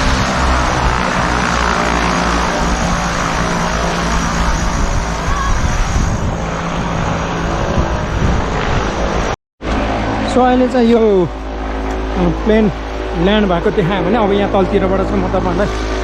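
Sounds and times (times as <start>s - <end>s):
propeller engines running: 0.0s - 16.0s.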